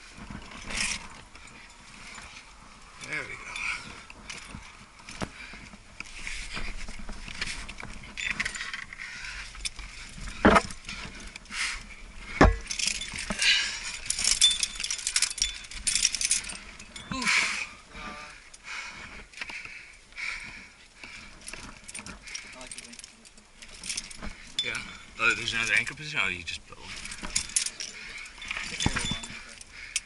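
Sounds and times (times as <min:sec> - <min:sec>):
metal climbing gear clinking: 0:00.0 - 0:30.0.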